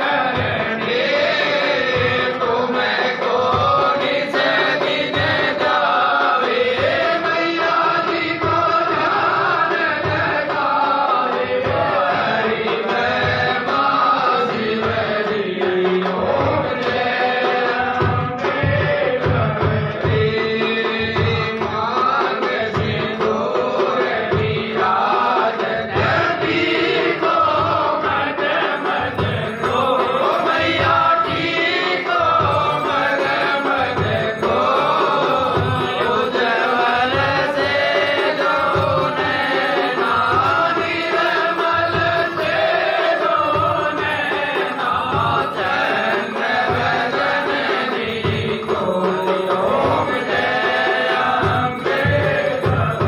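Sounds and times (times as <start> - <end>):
steady drum beat: 0.0 - 53.0
voices chanting and singing: 0.0 - 53.0.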